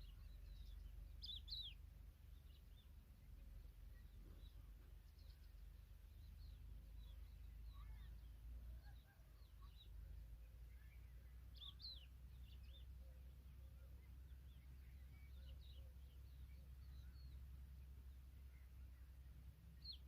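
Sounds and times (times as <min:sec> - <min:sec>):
bird chirps and twitters: 0:00.0 - 0:17.5
low steady rumble: 0:00.0 - 0:20.0.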